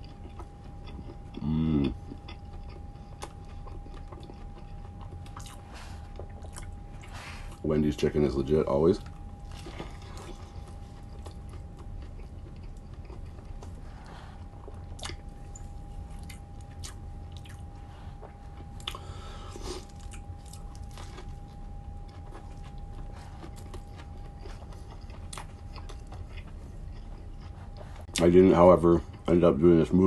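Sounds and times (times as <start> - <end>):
biting and chewing sandwich: 0.0 - 7.6, 8.4 - 28.4
faint steady tone: 0.0 - 30.0.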